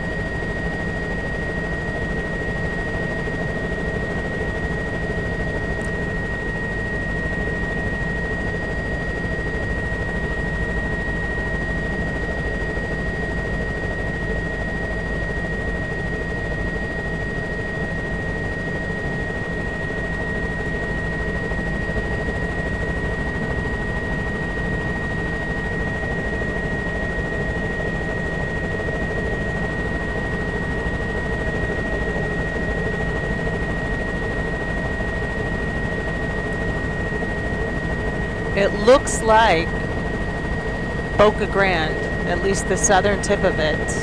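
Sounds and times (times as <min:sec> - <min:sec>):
small aircraft cabin drone: 0:00.0 - 0:44.0.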